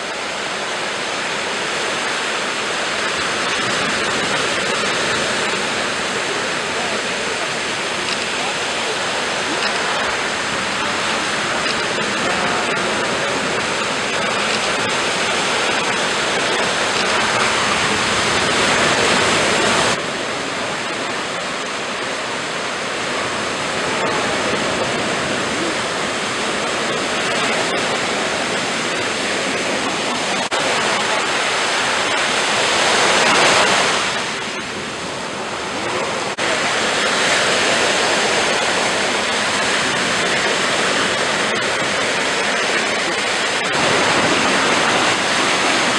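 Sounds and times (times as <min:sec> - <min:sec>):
waves breaking on shore: 0:00.0 - 0:45.9.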